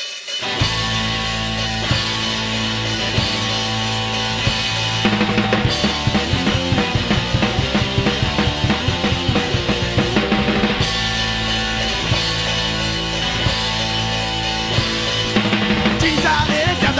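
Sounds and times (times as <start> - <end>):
rapid drum break: 0.0 - 16.9
held guitar chord: 0.4 - 16.8.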